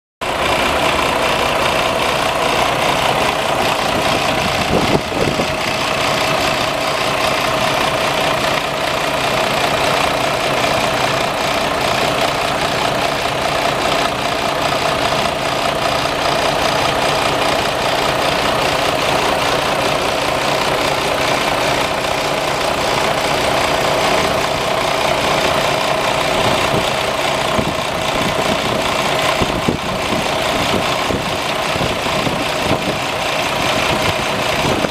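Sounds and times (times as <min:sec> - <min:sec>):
diesel truck engine idling: 0:00.2 - 0:34.9.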